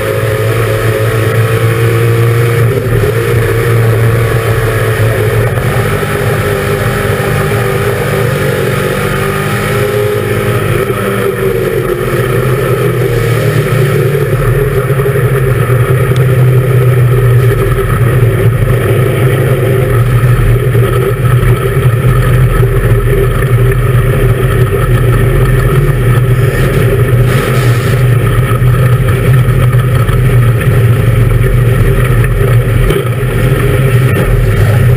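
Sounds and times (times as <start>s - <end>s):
race car engine running hard: 0.0s - 34.9s.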